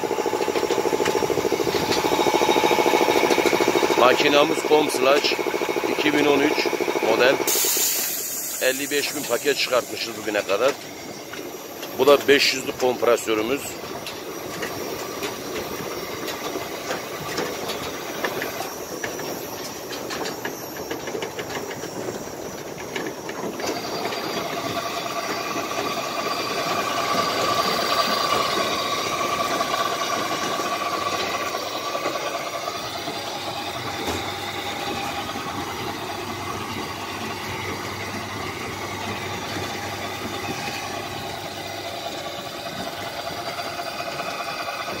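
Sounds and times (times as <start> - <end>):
air compressor knocking: 0.0 - 45.0
baling machine running: 0.0 - 45.0
machine whine: 0.0 - 45.0.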